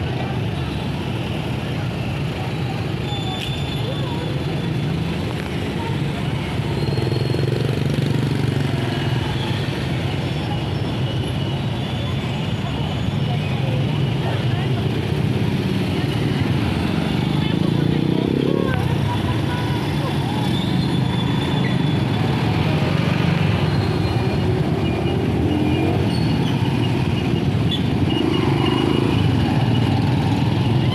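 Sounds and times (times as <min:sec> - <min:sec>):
vehicle engine and road noise: 0:00.0 - 0:30.9.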